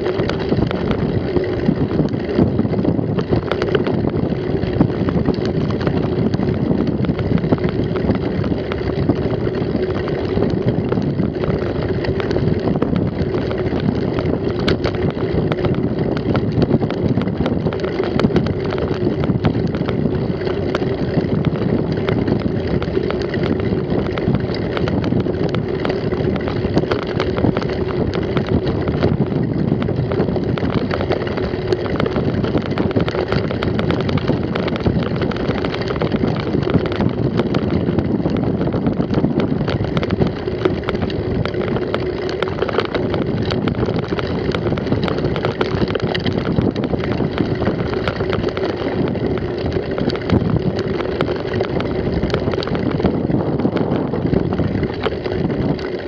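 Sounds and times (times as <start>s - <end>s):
bike rattles and knocks: 0.0s - 56.0s
mountain bike rolling: 0.0s - 56.0s
wind on microphone: 0.0s - 56.0s.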